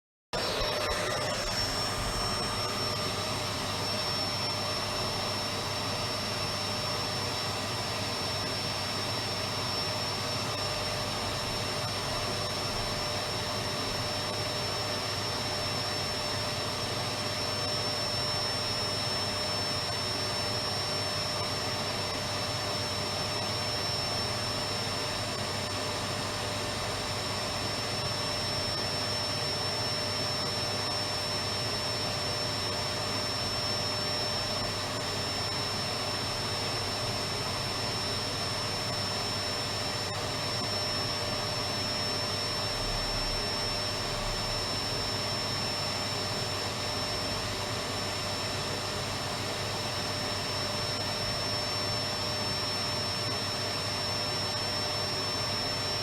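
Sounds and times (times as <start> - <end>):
vacuum cleaner motor running: 0.4 - 56.0.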